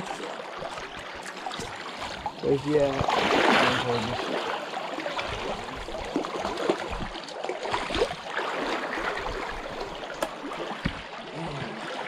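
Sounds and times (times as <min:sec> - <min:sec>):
stream running: 0:00.0 - 0:12.0
water splashing around a net: 0:00.0 - 0:12.0.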